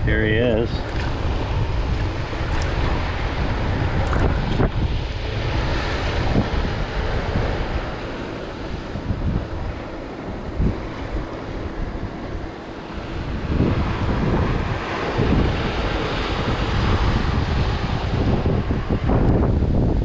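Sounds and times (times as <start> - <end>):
surf washing: 0.0 - 20.0
wind buffeting microphone: 0.0 - 20.0.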